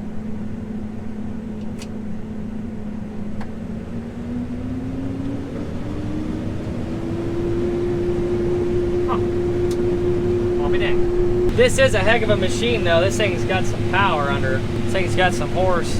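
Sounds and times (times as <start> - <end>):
combine harvester whine: 0.0 - 15.9.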